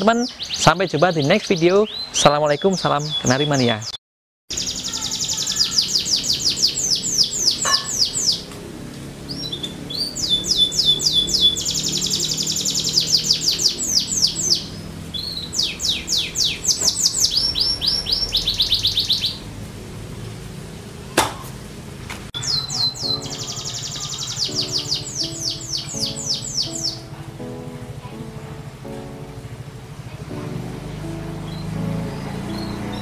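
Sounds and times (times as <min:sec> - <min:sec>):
canary singing trills: 0:00.0 - 0:08.5, 0:09.2 - 0:19.5, 0:22.4 - 0:29.6, 0:30.3 - 0:33.0.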